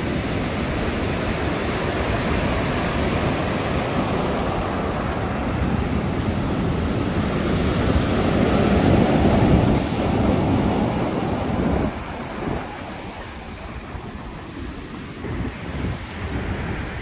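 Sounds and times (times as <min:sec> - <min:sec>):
waves breaking on pebble beach: 0:00.0 - 0:15.2.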